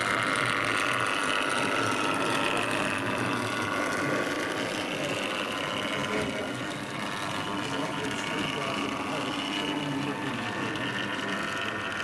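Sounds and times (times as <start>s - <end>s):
model train motor whining: 0.0s - 12.0s.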